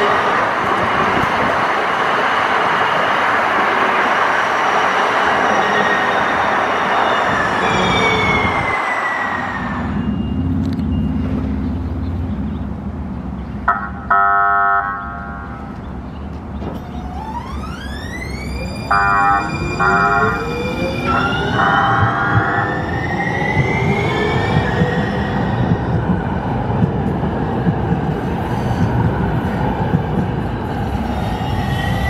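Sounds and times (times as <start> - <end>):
light-rail trolley passing: 0.0 - 32.0.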